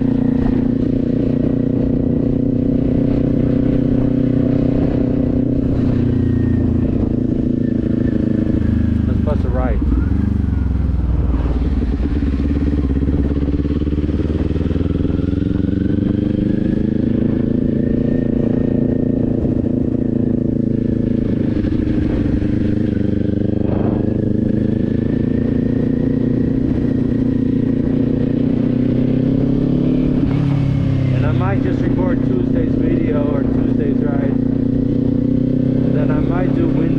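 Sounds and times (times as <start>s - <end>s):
motorcycle engine running: 0.0s - 36.9s
wind rumble on microphone: 0.0s - 36.9s.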